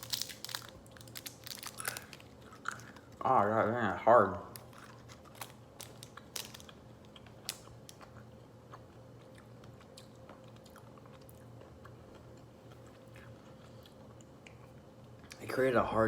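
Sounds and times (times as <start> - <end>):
chewing gum crunching: 0.0 - 3.2, 4.6 - 15.4
faint steady hum: 0.0 - 16.0.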